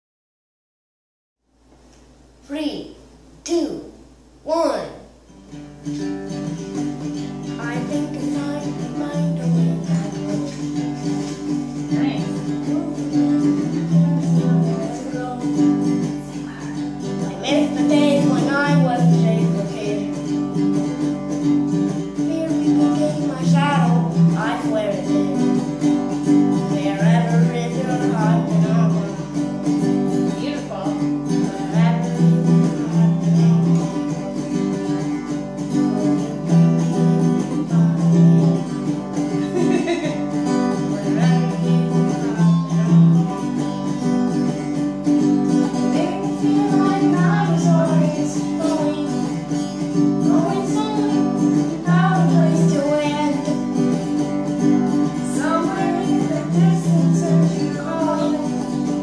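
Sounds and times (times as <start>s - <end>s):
strummed acoustic guitar: 3.5s - 59.0s
boy singing: 7.1s - 44.4s, 45.0s - 59.0s.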